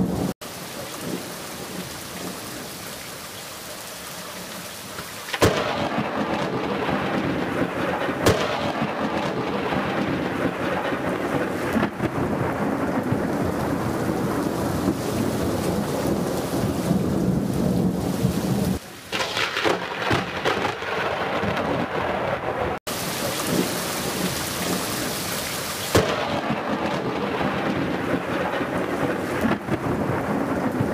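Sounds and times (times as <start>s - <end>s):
heavy rain: 0.0s - 30.9s
sharp thunder cracks: 5.3s - 25.1s, 25.9s - 30.9s
rumbling thunder: 5.4s - 25.3s, 25.9s - 30.9s.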